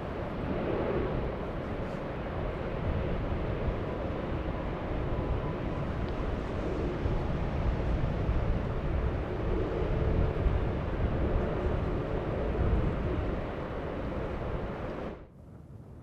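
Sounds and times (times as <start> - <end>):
jet engines rumbling: 0.0 - 15.3.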